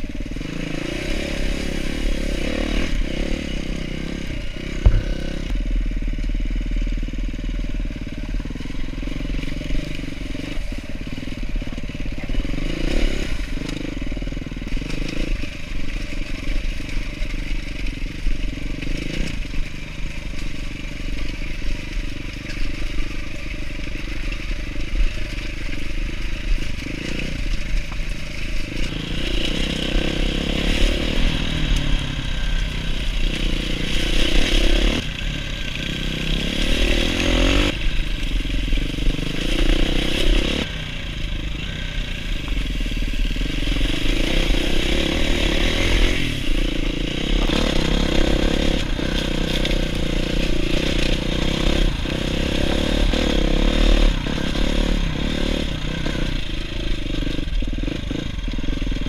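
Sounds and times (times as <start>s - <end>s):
motorcycle engine revving: 0.0s - 59.0s
wind and tyre noise: 0.0s - 59.0s.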